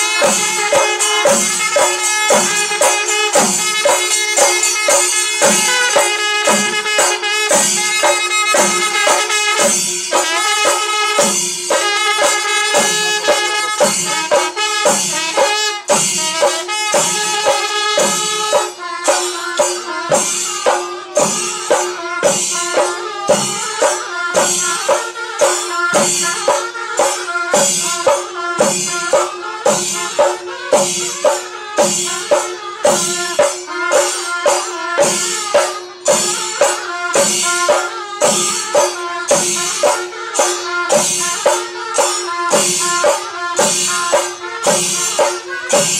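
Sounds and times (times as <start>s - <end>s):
drum strokes: 0.0s - 45.9s
hand cymbals clashing: 0.0s - 45.9s.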